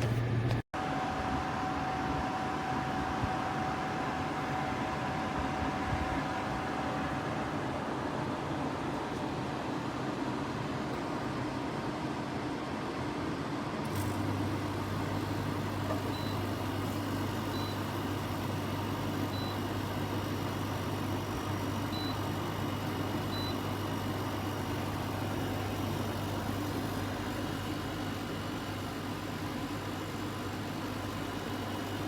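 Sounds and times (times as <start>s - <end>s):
air conditioner fan rushing: 0.0s - 32.0s.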